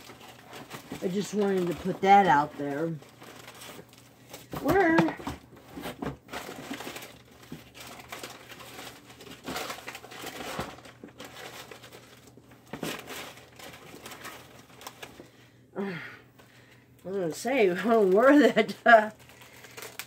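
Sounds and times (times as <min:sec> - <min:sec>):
rustling and crinkling: 0:00.0 - 0:15.5, 0:16.3 - 0:20.0.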